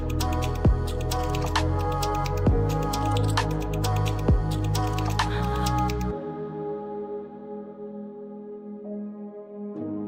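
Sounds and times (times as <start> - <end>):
ambient electronic music: 0.0 - 10.0.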